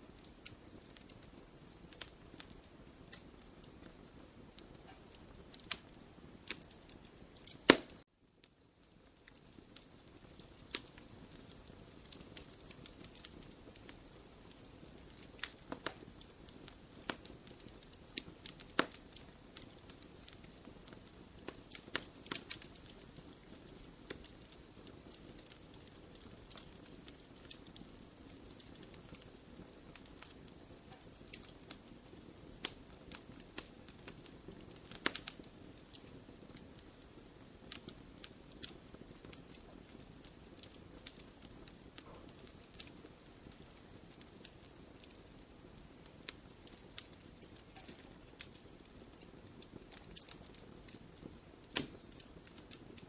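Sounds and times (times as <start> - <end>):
fire crackling and popping: 0.0 - 53.0
fire hissing: 0.2 - 8.0, 8.9 - 52.8.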